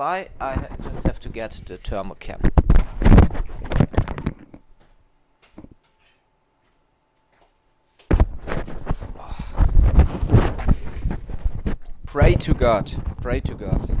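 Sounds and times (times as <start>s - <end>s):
handling noise: 0.4s - 6.2s, 8.0s - 14.0s.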